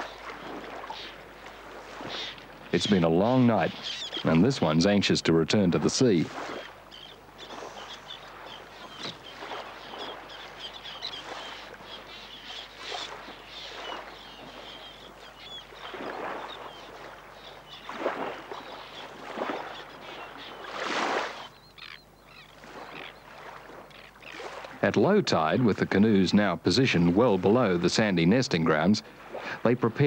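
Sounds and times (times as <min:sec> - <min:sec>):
birds chirping: 0:00.0 - 0:26.3.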